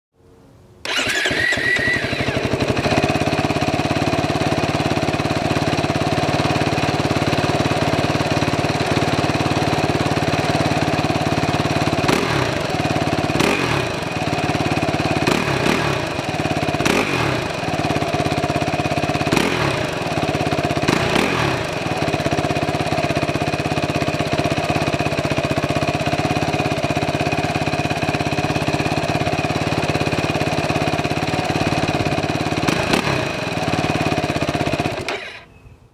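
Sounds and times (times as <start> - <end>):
motorcycle engine starting and idling: 0.8 - 35.9.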